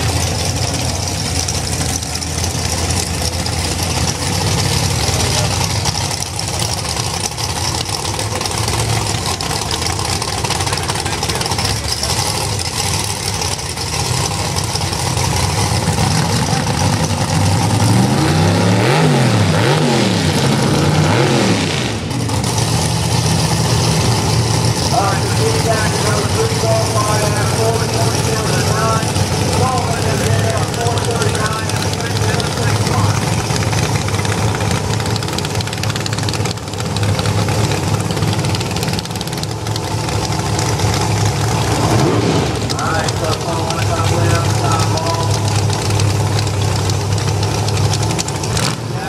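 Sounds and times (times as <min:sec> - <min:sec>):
car engines idling: 0:00.0 - 0:49.0
engine revving: 0:00.0 - 0:49.0.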